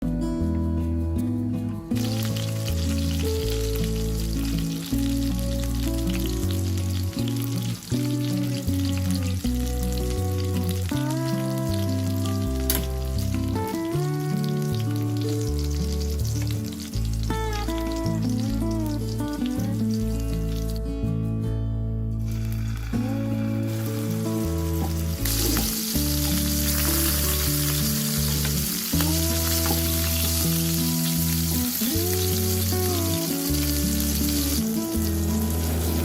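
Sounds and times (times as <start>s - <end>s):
background music with bass line: 0.0s - 36.0s
meat rolls sizzling in hot oil: 1.9s - 20.8s, 22.2s - 36.0s.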